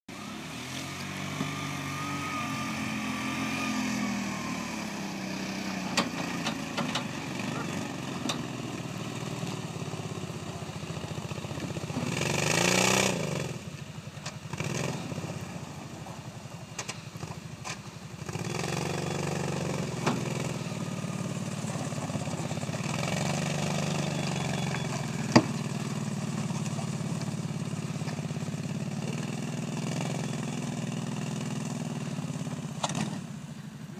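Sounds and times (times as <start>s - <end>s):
engines revving under load: 0.1s - 33.9s.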